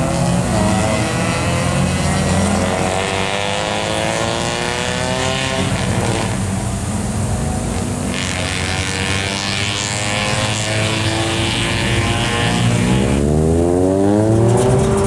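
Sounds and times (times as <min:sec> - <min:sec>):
car engines accelerating: 0:00.0 - 0:15.0.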